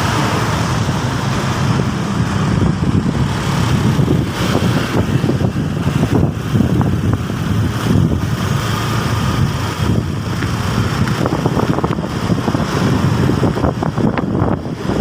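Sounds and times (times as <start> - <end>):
bus engine rumbling: 0.0 - 15.0
wind buffeting microphone: 0.0 - 15.0.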